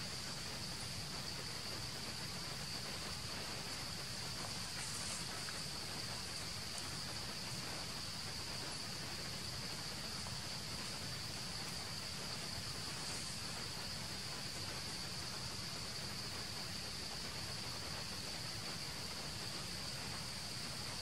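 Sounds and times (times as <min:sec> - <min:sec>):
insect chorus buzzing: 0:00.0 - 0:21.0
low background rumble: 0:00.0 - 0:21.0.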